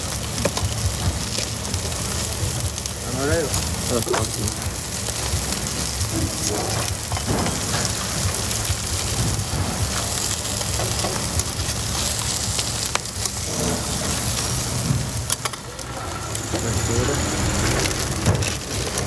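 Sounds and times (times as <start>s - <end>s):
food sizzling on a griddle: 0.0s - 19.0s
low burner hum: 0.0s - 19.0s.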